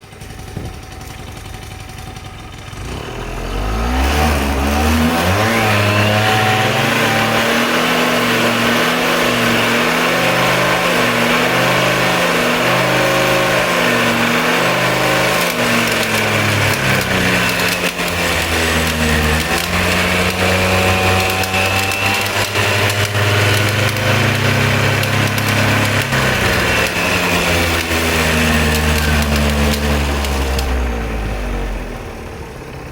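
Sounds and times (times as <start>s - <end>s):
scooter engine revving: 0.0s - 32.9s
rattling grinding gear noise: 0.2s - 31.1s.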